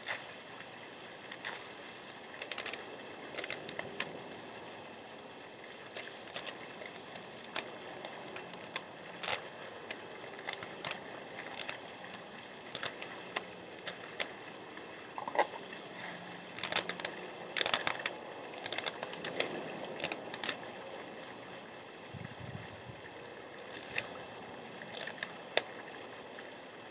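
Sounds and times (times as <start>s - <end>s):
microphone hiss: 0.0s - 26.9s.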